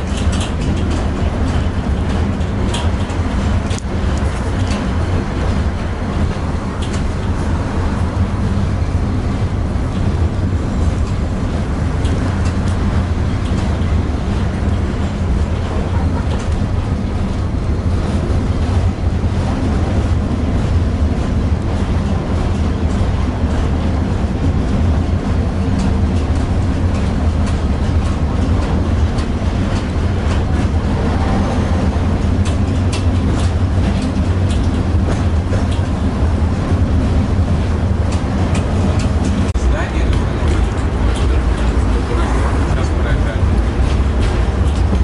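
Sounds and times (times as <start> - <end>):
sharp clicks and rattles: 0.0 - 7.4, 10.8 - 17.4, 19.7 - 45.0
tram wheels rumbling on rails: 0.0 - 45.0.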